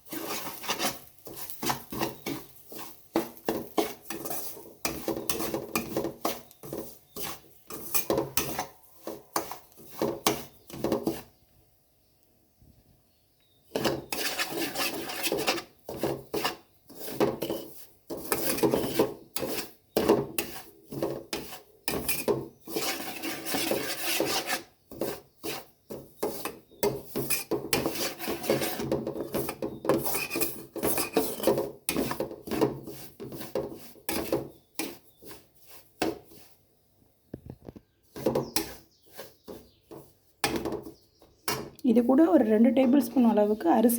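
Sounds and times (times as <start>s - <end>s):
spatula scraping a pan: 0.0s - 11.4s, 13.6s - 36.7s, 38.0s - 41.7s.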